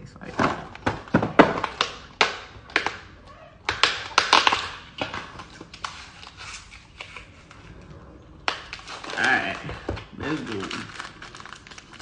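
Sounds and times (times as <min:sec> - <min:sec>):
plastic packaging crinkling: 0:00.2 - 0:12.0.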